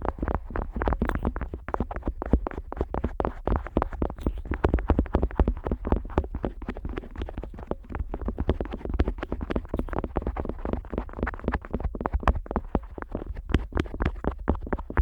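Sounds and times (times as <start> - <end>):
scrapes and pops at microphone: 0.0 - 15.0.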